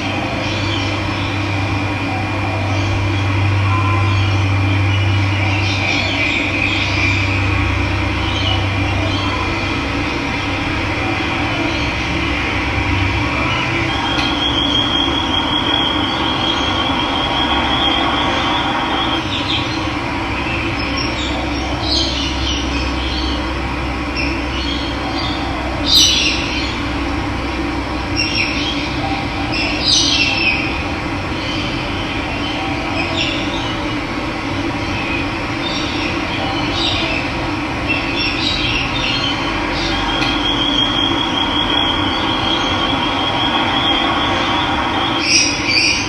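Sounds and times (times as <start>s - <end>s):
birds chirping and trilling: 0.0s - 46.0s.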